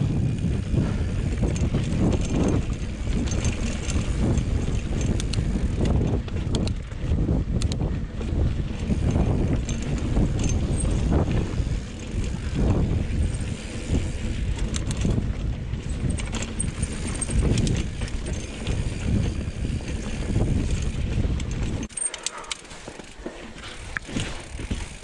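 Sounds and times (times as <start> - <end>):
bike tyres rumbling over rock: 0.0 - 22.0, 22.7 - 25.0
bike rattling and clicking: 0.0 - 25.0
wind buffeting microphone: 0.0 - 25.0.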